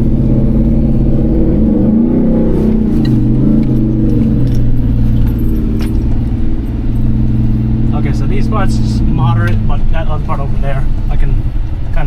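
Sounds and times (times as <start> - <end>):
engine heard from inside cab: 0.0 - 12.0.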